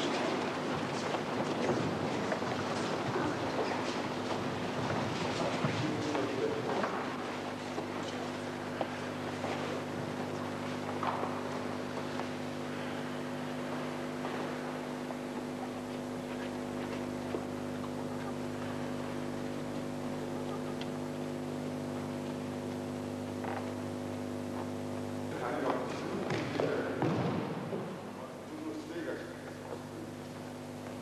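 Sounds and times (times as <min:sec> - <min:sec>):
low hum with hiss: 0:00.0 - 0:31.0.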